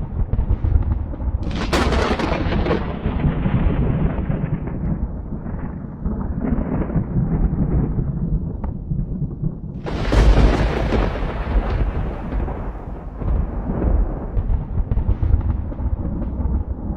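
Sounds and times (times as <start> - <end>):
thunder crack: 0.0 - 16.9
thunder rumble: 0.0 - 16.9.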